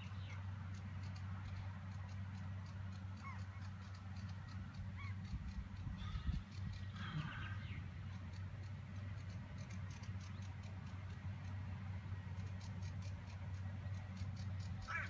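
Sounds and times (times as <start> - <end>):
distant tractor and baler drone: 0.0 - 15.0
gulls calling: 0.0 - 15.0.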